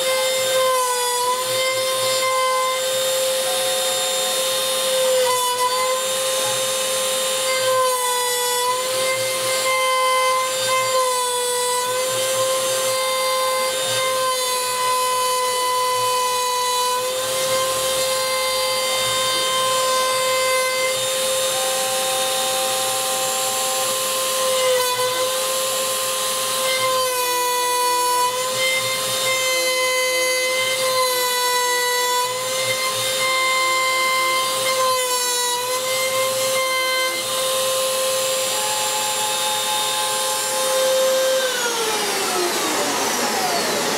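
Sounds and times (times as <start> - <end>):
router spindle high whine: 0.0 - 43.9.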